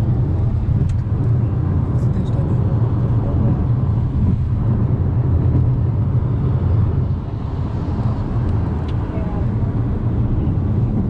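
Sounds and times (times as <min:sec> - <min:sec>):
car engine hum: 0:00.0 - 0:11.0
tyres on wet road: 0:00.0 - 0:11.0.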